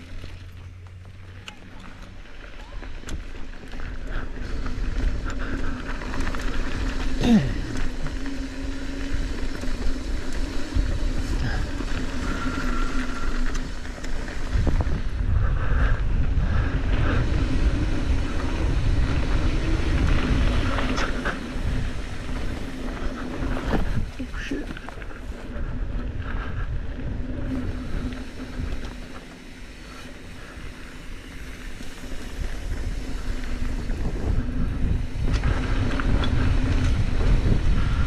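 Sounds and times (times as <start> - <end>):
bike clicks and rattles: 0.0 - 38.0
tyres rolling on dirt: 0.0 - 38.0
wind buffeting microphone: 2.8 - 38.0.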